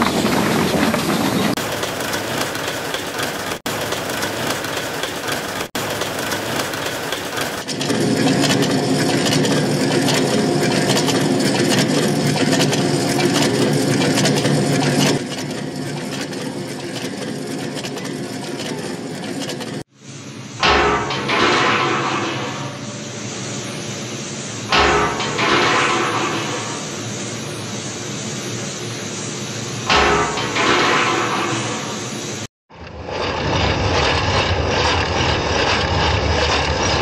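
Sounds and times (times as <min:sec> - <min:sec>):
machinery humming and clattering: 0:00.0 - 0:37.0.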